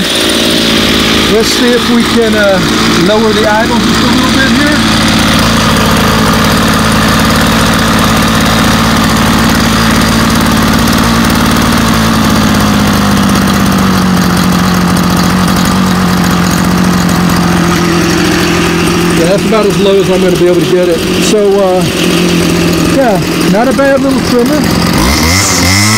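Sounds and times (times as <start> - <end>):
string trimmer engine idling: 0.0 - 25.9.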